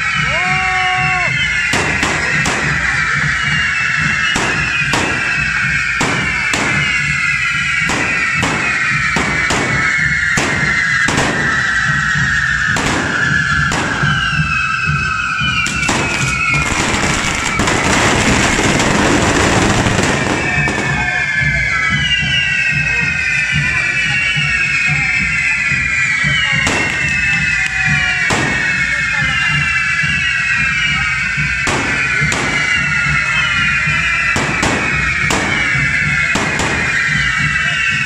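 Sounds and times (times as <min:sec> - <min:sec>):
firework bangs: 0:00.0 - 0:38.0
fireworks whistling shriek: 0:00.0 - 0:38.0.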